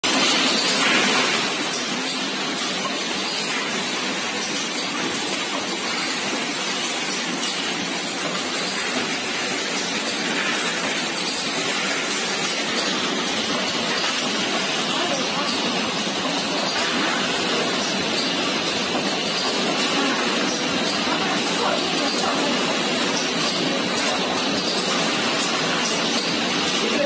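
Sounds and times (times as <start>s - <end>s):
filling machine hissing: 0.1s - 27.0s.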